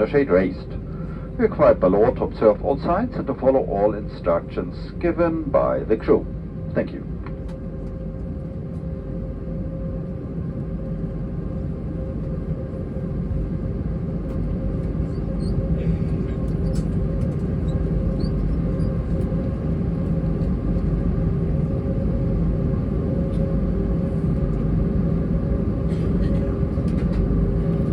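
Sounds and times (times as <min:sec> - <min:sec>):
airplane cabin engine rumble: 0:00.0 - 0:27.9.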